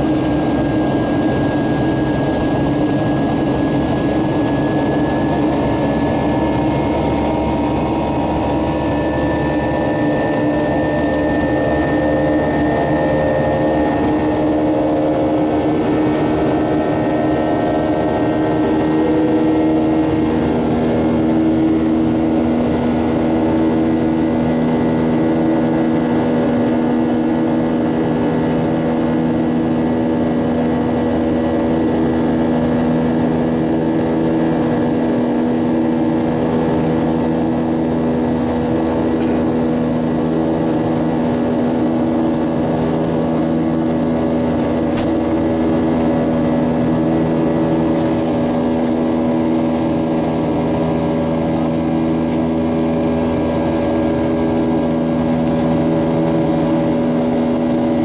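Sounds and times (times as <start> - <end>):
humming engine tones: 0.0 - 58.0
jet engine and airflow rush: 0.0 - 58.0.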